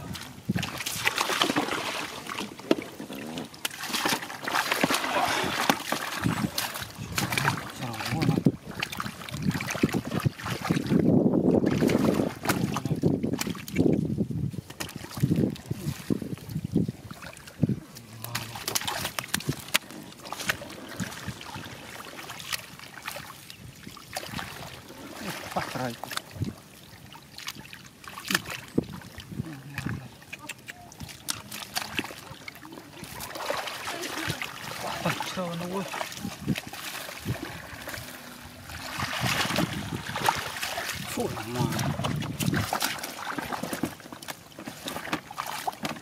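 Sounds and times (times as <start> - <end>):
dull low sloshes: 0.0 - 46.0
muddy water splashing: 0.0 - 46.0.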